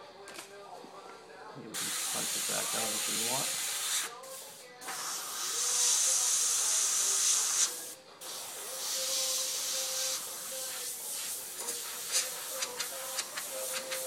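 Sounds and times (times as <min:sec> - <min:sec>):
airbrush spraying hiss: 0:01.8 - 0:14.0.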